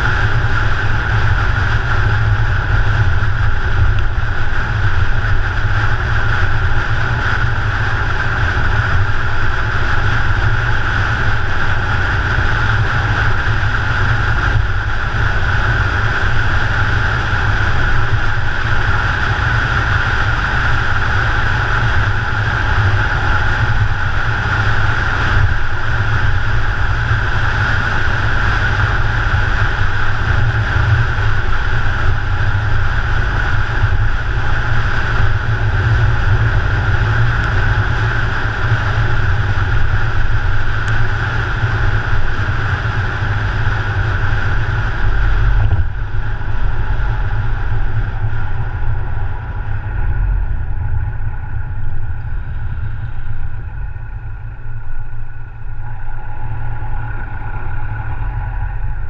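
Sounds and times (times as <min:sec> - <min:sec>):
car engine and tyre noise: 0:00.0 - 0:59.0
wind buffeting microphone: 0:00.0 - 0:59.0.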